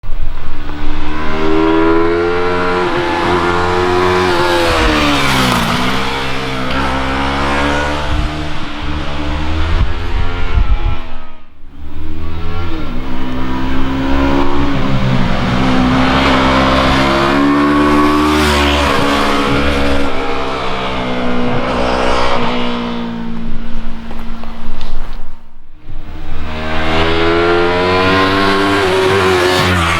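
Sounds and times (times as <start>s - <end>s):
motorcycle engine revving: 0.1s - 29.9s.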